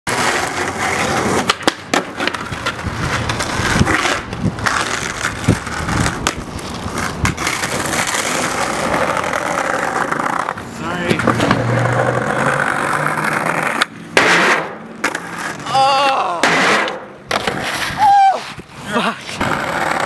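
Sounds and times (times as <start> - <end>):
skateboard clacking: 0.1 - 15.7, 19.2 - 20.0
skateboard wheels rolling on concrete: 0.1 - 20.0.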